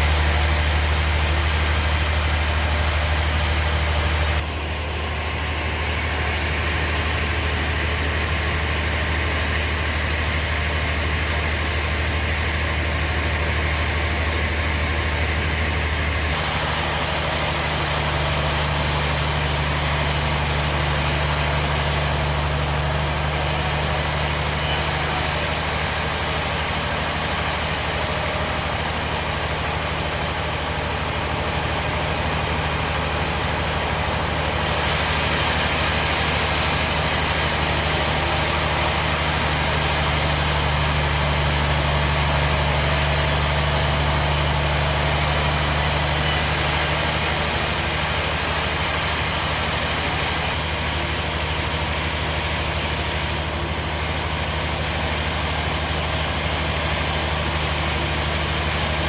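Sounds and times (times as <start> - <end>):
bandsaw machinery humming: 0.0 - 59.0.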